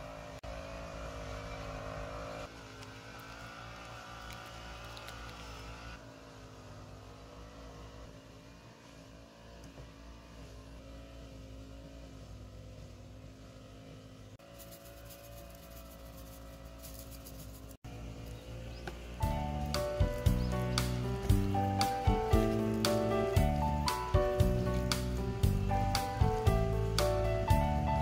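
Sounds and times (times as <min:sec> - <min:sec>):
mechanical hum with low drone: 0:00.0 - 0:28.0.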